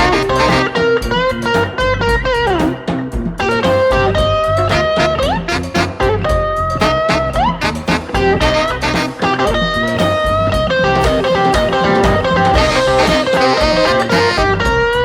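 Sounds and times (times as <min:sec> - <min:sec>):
electric guitar: 0:00.0 - 0:15.0
rhythm and blues band playing: 0:00.0 - 0:15.0.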